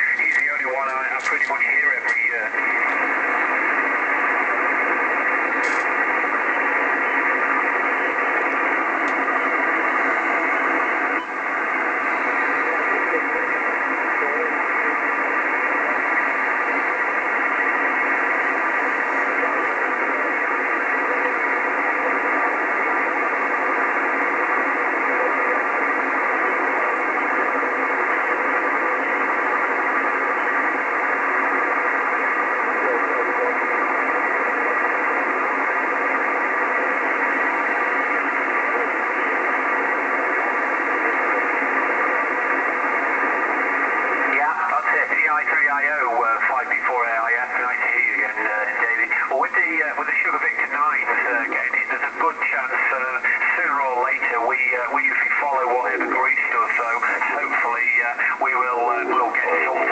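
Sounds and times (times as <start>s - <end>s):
faint steady tones: 0.0s - 59.9s
radio receiver hiss: 0.0s - 59.9s.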